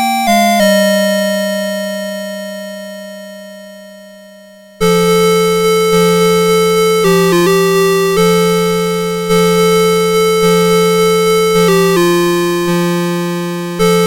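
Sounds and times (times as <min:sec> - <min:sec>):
alarm clock electronic melody: 0:00.0 - 0:03.0, 0:04.2 - 0:14.0.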